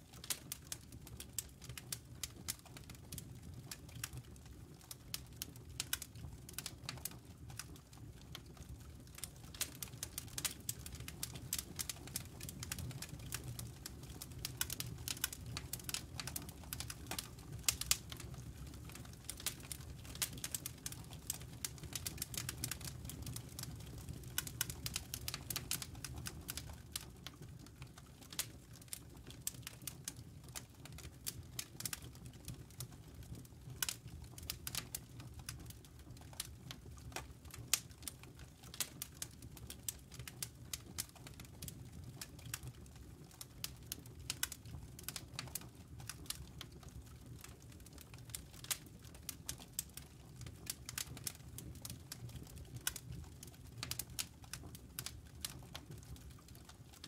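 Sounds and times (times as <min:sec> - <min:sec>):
fire crackling and popping: 0:00.0 - 0:57.0
low rumble of flames: 0:00.0 - 0:57.0.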